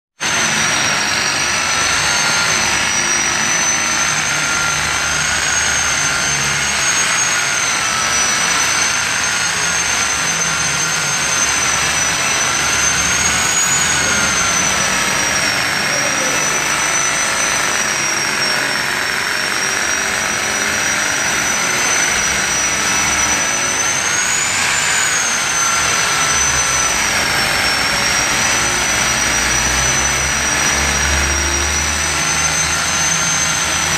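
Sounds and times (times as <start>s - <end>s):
machine polisher motor whine: 0.2s - 33.9s.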